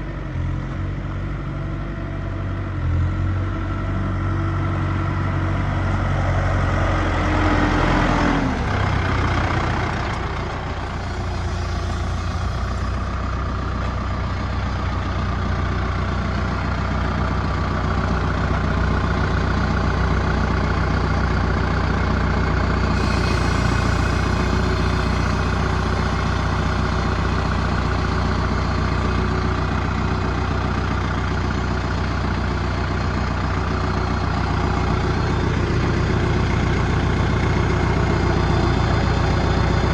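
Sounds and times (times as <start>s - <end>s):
tractor diesel engine running: 5.5s - 39.9s.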